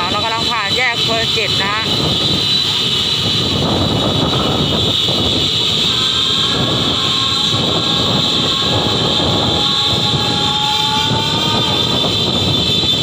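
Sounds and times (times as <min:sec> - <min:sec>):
car traffic noise: 0:00.0 - 0:13.0
wind buffeting microphone: 0:00.0 - 0:13.0.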